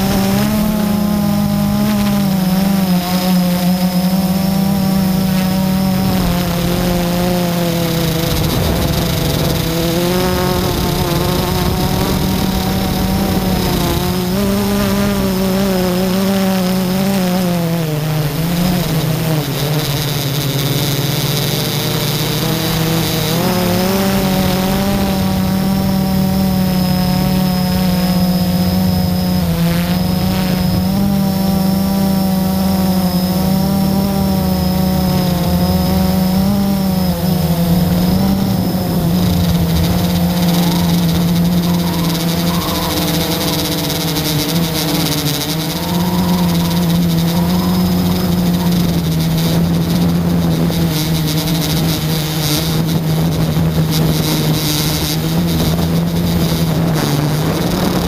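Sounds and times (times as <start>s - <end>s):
drone propellers buzzing: 0.0s - 58.0s.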